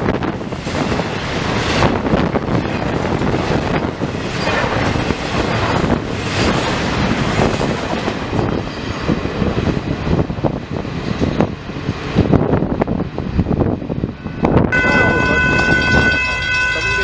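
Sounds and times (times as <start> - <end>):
freight train rolling past: 0.0 - 17.0
wheels clattering on rails: 0.0 - 17.0
wind buffeting microphone: 0.0 - 17.0.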